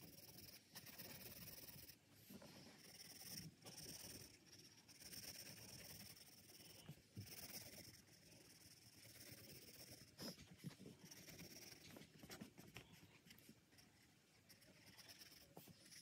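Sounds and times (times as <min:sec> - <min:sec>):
pencil scratching on paper: 0:00.0 - 0:16.0.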